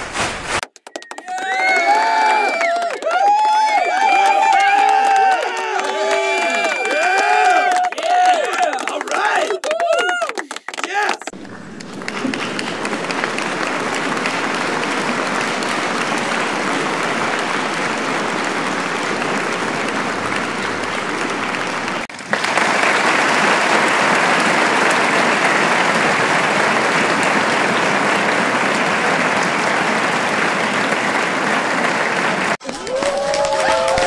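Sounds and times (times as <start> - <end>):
crowd applauding: 0.6 - 34.0.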